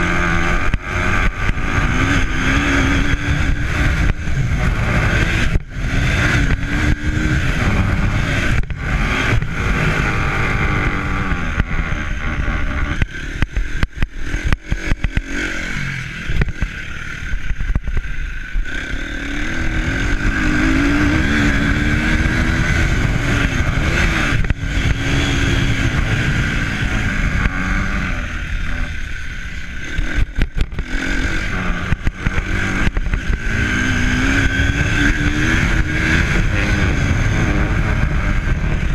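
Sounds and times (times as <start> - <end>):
motor engine running: 0.0 - 38.9.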